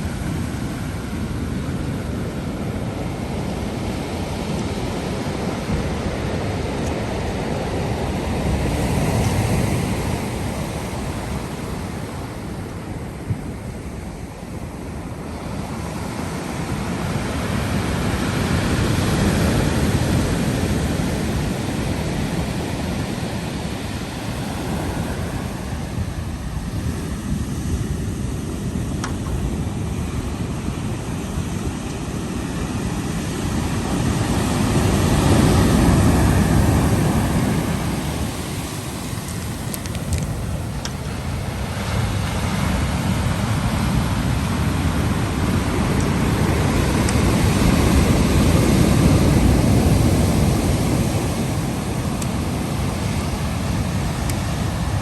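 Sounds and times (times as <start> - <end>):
ocean waves rolling in: 0.0 - 55.0.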